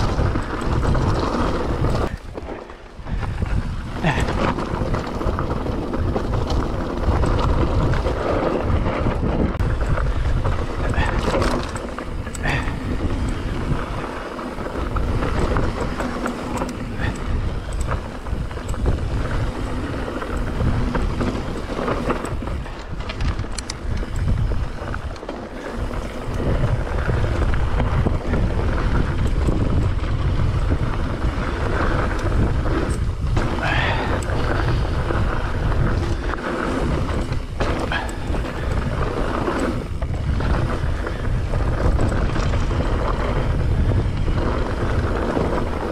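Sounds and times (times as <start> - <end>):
bike knocks and rattles: 0.0 - 45.9
tyres rushing on dirt: 0.0 - 45.9
wind buffeting microphone: 0.0 - 45.9.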